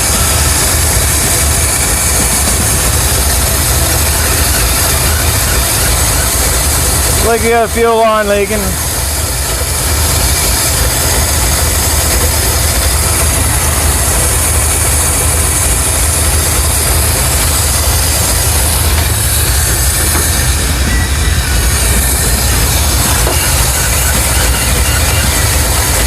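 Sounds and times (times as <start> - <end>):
engine running with low rumble: 0.0 - 26.0.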